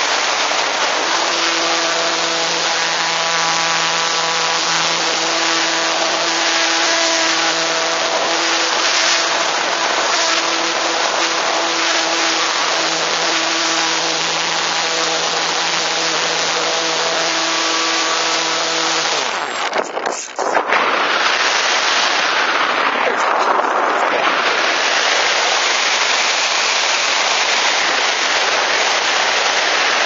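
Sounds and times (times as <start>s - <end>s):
electric motor and propeller: 0.0s - 30.0s
wind rush on microphone: 0.0s - 30.0s.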